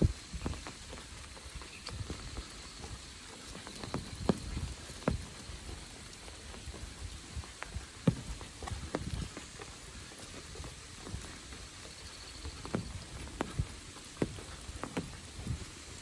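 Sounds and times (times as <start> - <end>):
drips tapping on surfaces: 0.0 - 16.0
rain falling: 0.0 - 16.0.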